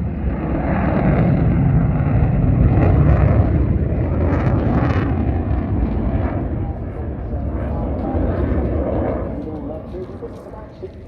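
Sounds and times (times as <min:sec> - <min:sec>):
military jet engine rumble: 0:00.0 - 0:11.0.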